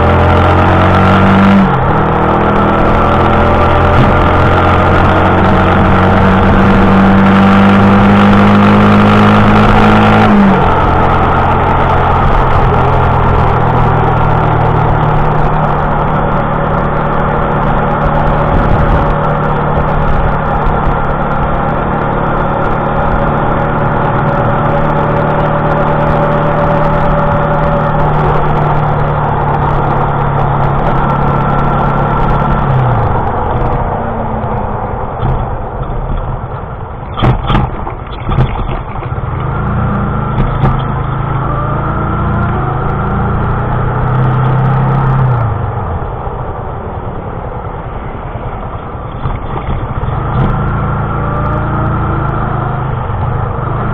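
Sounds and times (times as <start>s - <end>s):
wind rush: 0.0s - 44.0s
motorcycle engine revving: 0.0s - 53.9s.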